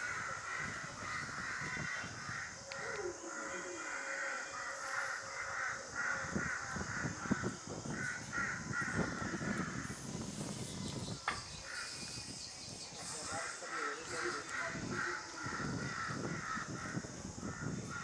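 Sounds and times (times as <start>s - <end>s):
crows cawing: 0.0s - 10.1s, 13.0s - 18.0s.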